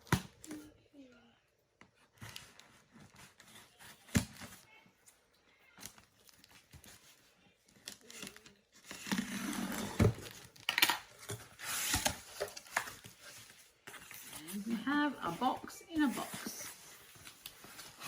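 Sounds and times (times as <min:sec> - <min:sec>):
cardboard and paper crinkling: 0:01.9 - 0:18.0.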